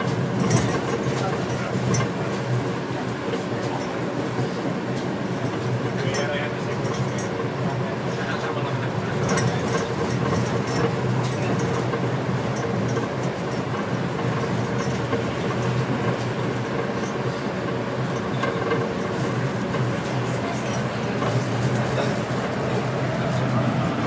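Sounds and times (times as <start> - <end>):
train running rumble and hum: 0.0 - 24.0.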